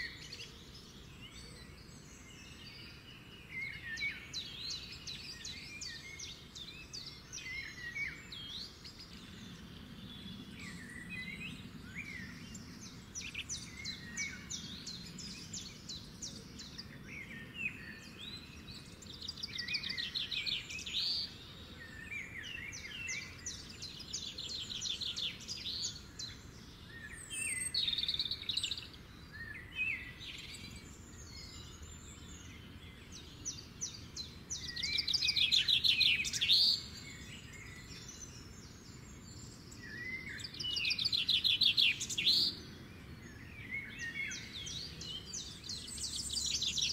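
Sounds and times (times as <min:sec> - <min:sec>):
faint background hiss: 0:00.0 - 0:46.9
small birds chirping and trilling: 0:00.0 - 0:46.9.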